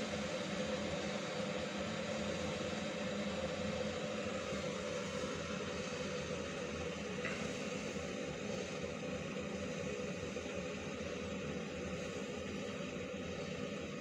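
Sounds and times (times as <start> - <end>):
steady low hum with hiss: 0.0 - 14.0.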